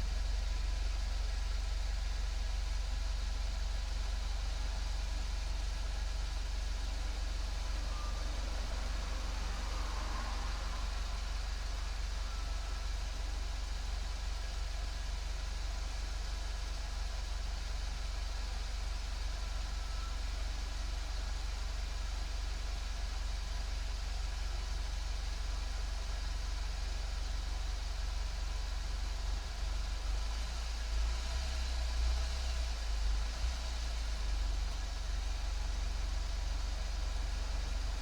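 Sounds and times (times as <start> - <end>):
car engine droning with hiss: 0.0 - 38.0.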